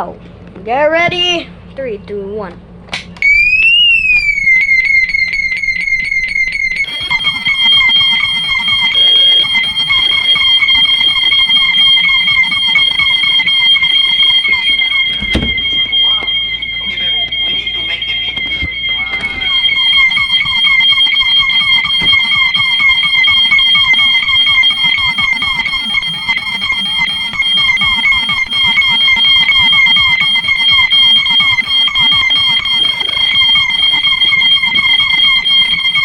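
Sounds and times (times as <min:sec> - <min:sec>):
fast-warbling alarm tone: 0:03.2 - 0:36.0
low sweeping alarm tone: 0:03.2 - 0:36.0
steady high-pitched alarm tone: 0:03.2 - 0:36.0.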